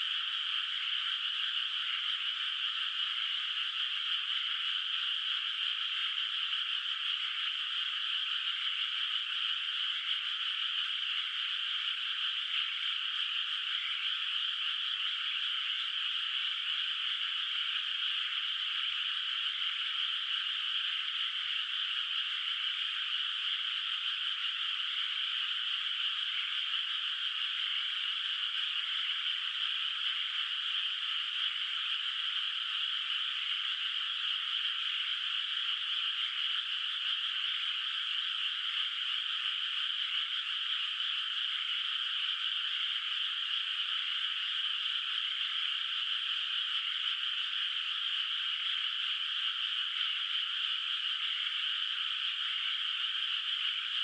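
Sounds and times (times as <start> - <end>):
chorus of frogs calling: 0.0 - 54.0.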